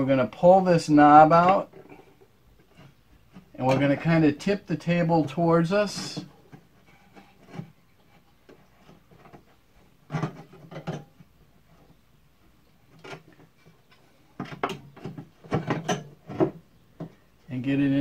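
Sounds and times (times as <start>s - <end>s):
metal knocking and scraping on metal: 1.2s - 12.0s, 12.8s - 17.3s.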